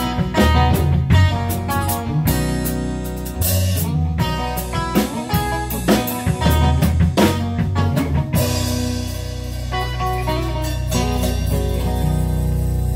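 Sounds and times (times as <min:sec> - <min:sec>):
bass guitar: 0:00.0 - 0:12.9
drum kit: 0:00.0 - 0:12.9
electric guitars: 0:00.0 - 0:12.9.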